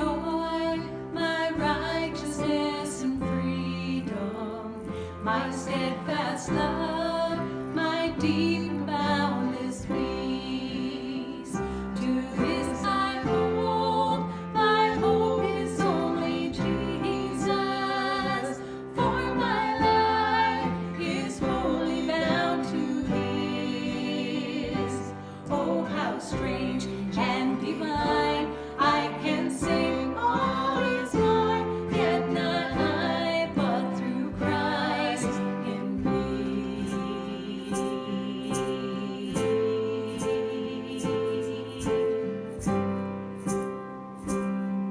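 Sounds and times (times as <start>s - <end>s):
voices singing: 0.0s - 42.7s
instrumental accompaniment: 0.0s - 44.9s.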